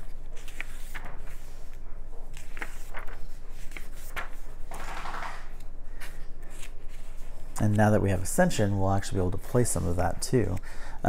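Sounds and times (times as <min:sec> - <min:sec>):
magazine pages rustling: 0:00.0 - 0:10.6
low electrical hum: 0:00.0 - 0:11.0.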